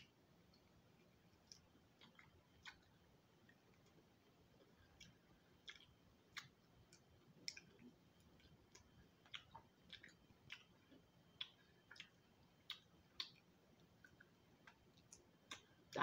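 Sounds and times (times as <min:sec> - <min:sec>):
mouth chewing sounds: 0:00.5 - 0:15.9.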